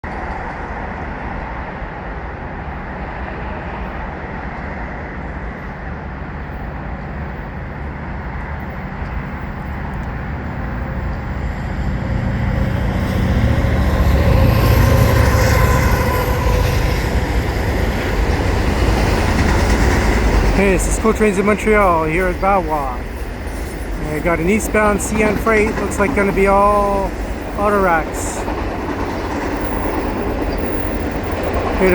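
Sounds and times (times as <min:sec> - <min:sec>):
train wheels rumbling on rail: 0:00.0 - 0:31.9.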